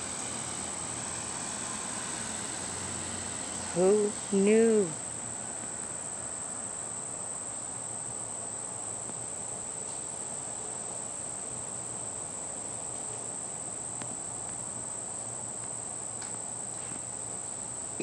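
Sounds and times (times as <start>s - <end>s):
high-pitched insect song: 0.0s - 18.0s.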